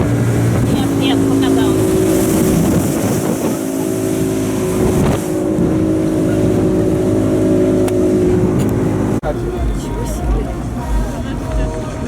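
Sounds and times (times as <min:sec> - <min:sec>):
motorboat engine running: 0:00.0 - 0:12.0
wind and water rushing: 0:00.0 - 0:12.0.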